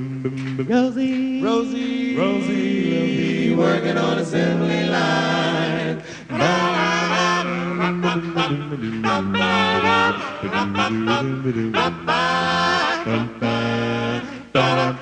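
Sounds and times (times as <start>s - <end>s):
male a cappella group singing: 0.0s - 15.0s.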